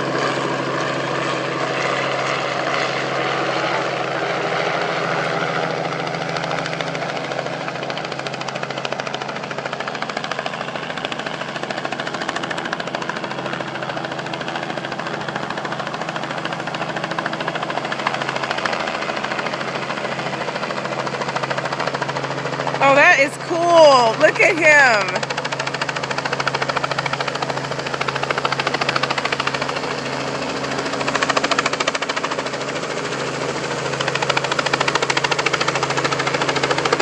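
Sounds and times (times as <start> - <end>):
helicopter engine whine: 0.0 - 37.0
helicopter rotor chop: 0.0 - 37.0.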